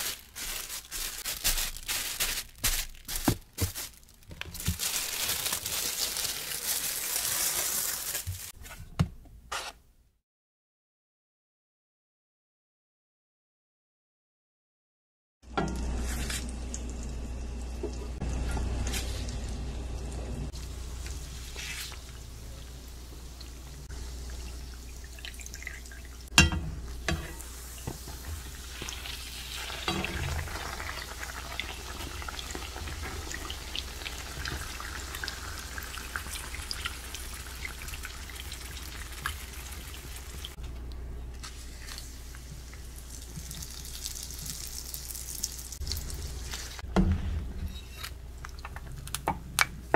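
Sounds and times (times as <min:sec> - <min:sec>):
oil sizzling and bubbling: 0:00.0 - 0:08.6, 0:15.4 - 0:49.9.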